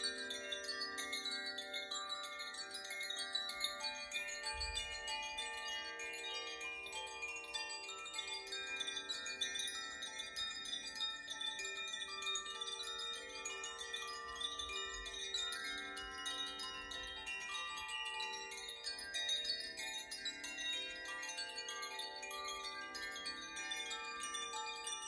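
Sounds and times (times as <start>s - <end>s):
wind chimes ringing: 0.0s - 25.0s.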